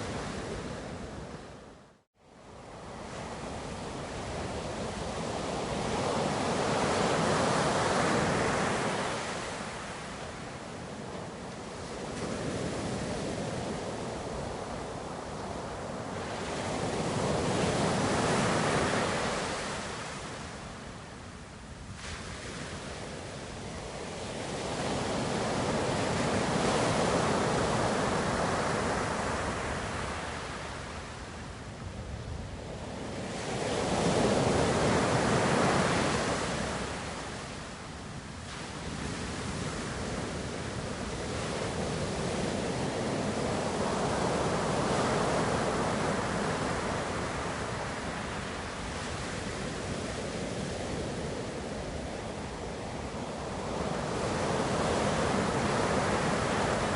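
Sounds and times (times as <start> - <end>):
ocean waves washing in and out: 0.0 - 56.9.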